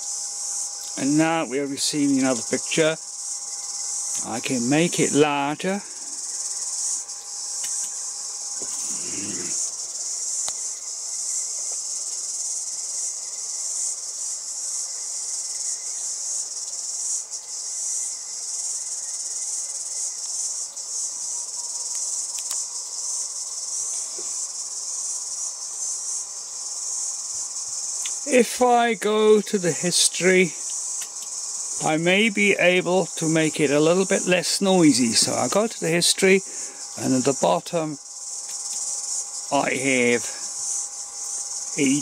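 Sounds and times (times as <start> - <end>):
shortwave receiver hiss: 0.0 - 14.8, 21.8 - 42.0.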